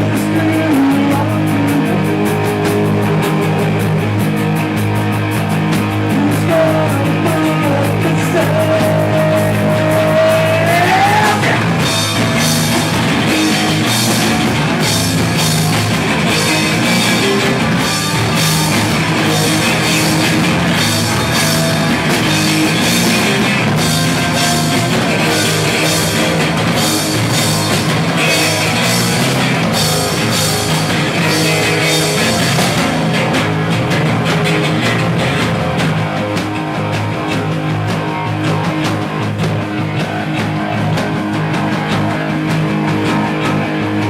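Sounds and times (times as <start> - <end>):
distorted electric guitars: 0.0 - 44.0
drum kit playing fast beat: 0.0 - 44.0.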